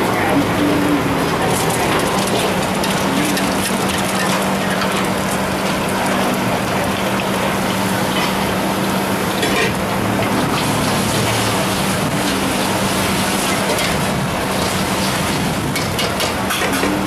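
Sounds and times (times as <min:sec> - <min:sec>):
oil sizzling in woks: 0:01.3 - 0:16.8.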